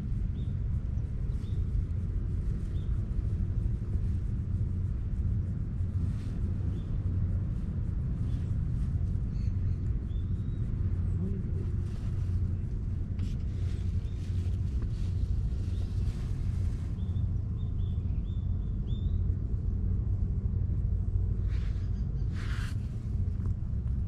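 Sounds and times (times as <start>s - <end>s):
soft rustling: 0.0s - 17.6s, 21.4s - 24.0s
low outdoor rumble: 0.0s - 24.0s.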